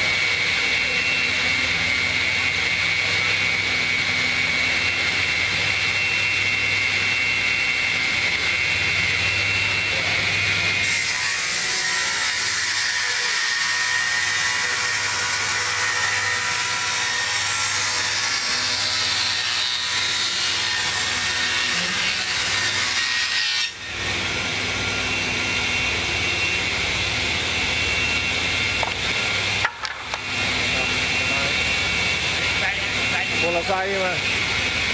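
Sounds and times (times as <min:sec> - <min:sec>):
saw blades humming and whining: 0:00.0 - 0:34.9.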